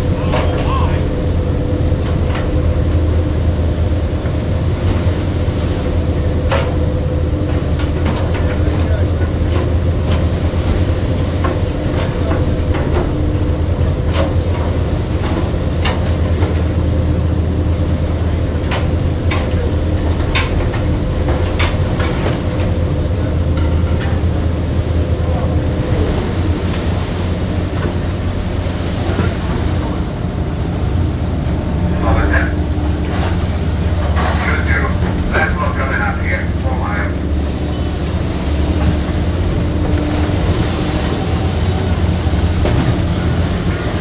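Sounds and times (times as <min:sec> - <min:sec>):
boat engine drone: 0:00.0 - 0:44.0.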